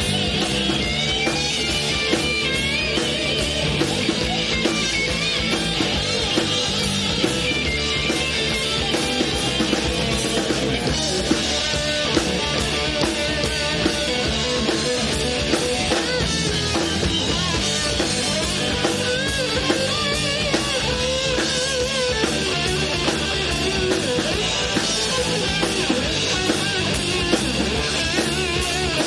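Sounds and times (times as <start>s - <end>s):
drum kit steady beat: 0.0s - 29.0s
electric guitars: 0.0s - 29.0s.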